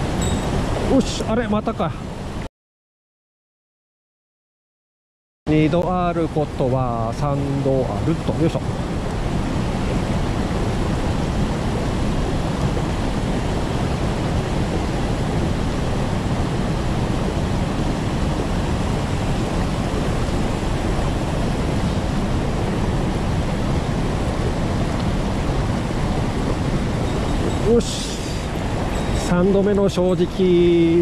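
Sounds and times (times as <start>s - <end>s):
stream rushing over rocks: 0.0s - 2.3s, 6.3s - 31.0s.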